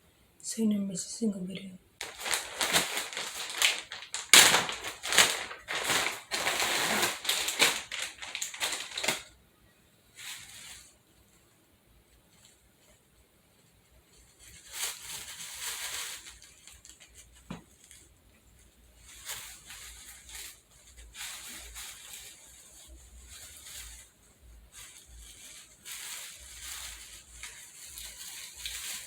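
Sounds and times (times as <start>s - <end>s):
rustling from handling: 2.0s - 9.3s, 10.2s - 11.4s, 13.6s - 29.0s.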